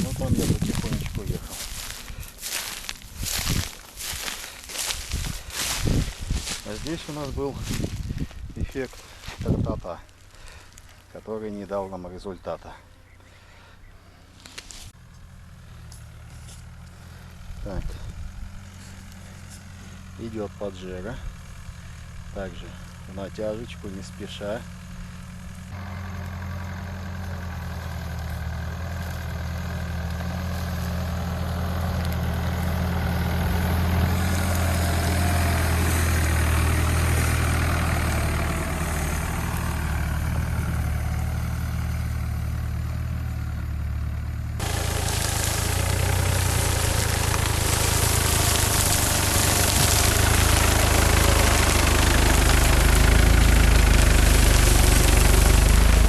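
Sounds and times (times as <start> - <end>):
car engine running under load: 0.0 - 8.4, 14.9 - 56.0.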